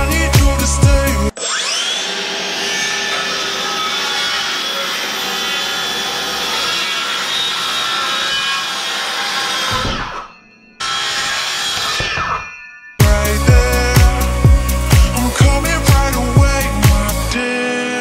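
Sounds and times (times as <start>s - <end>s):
circular saw cutting wood: 1.2s - 17.4s.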